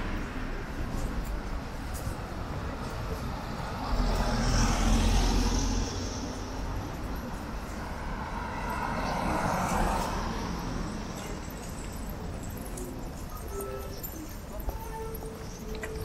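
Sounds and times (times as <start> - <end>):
cars driving past: 0.0 - 13.3.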